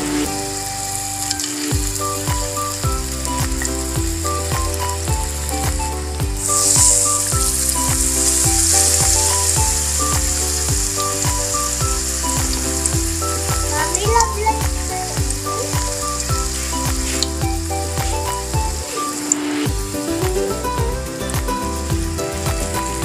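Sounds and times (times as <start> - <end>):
background music with beat: 0.0 - 23.0
leaves frying in hot oil: 0.0 - 23.0.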